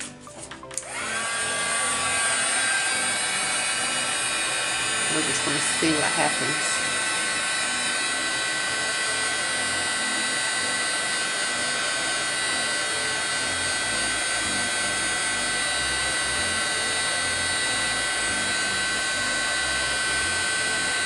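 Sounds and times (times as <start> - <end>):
heat gun fan whine: 0.7 - 21.0.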